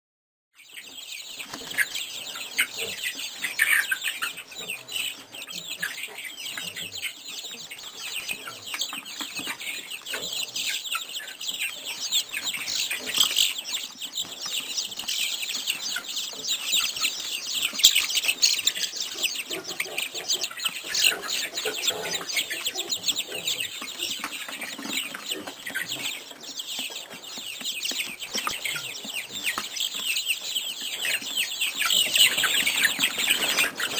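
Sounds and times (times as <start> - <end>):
birds chirping and calling: 0.6 - 33.9.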